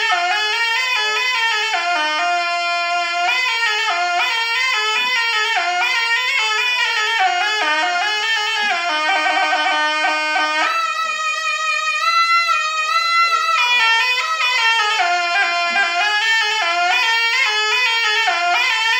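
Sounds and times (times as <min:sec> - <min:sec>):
wooden shawm melody: 0:00.0 - 0:18.9.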